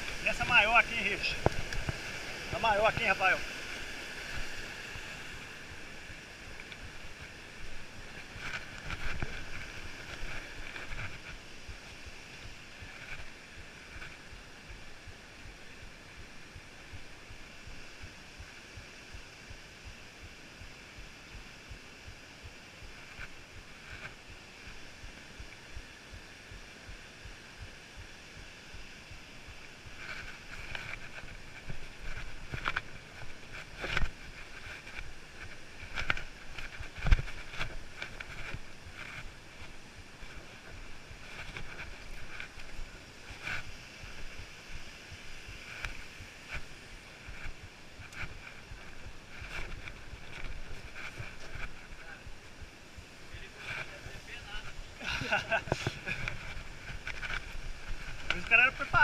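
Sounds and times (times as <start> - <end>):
footsteps and hands on rock: 0.0 - 59.0
rushing outdoor noise: 0.0 - 59.0.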